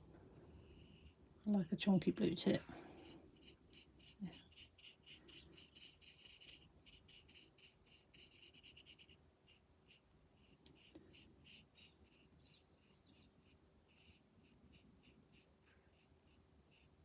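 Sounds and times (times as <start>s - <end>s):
paintbrush strokes on card: 2.5s - 17.0s.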